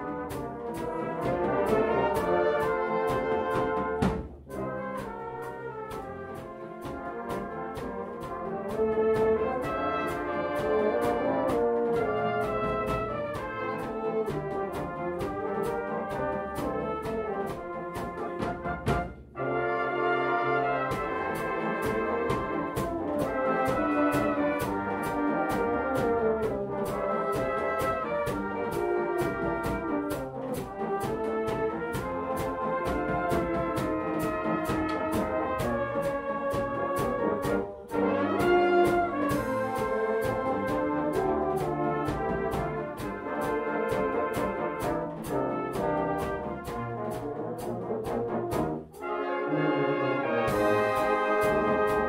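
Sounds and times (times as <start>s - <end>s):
drum kit beat: 0.0s - 19.7s, 20.4s - 49.1s, 50.4s - 52.0s
brass band playing: 0.0s - 52.0s.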